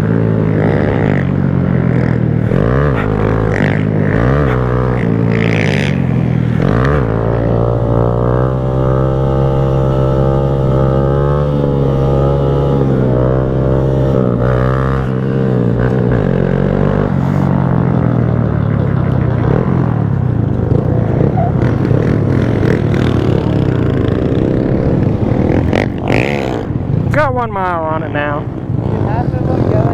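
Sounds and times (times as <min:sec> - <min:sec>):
small motorcycle engine revving: 0:00.0 - 0:18.2, 0:20.7 - 0:26.8.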